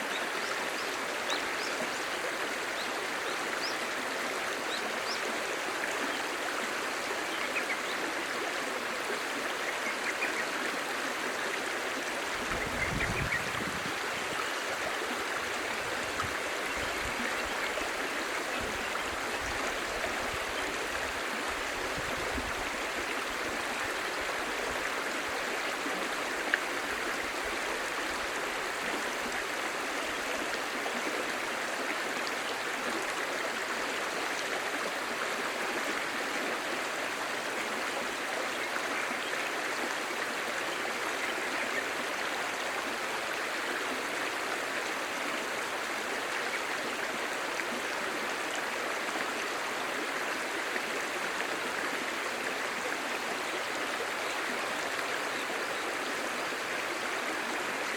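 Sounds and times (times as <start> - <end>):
stream babbling: 0.0 - 57.9.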